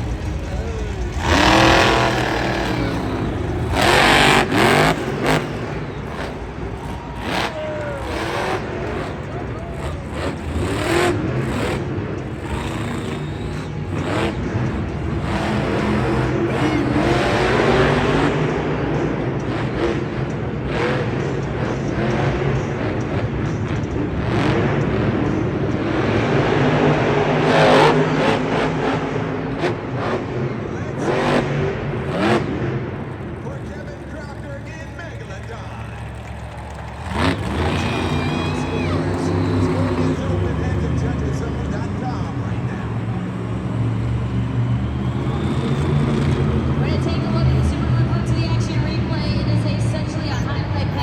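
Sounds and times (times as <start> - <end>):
crowd noise: 0.0 - 51.0
truck engine revving hard: 0.0 - 51.0.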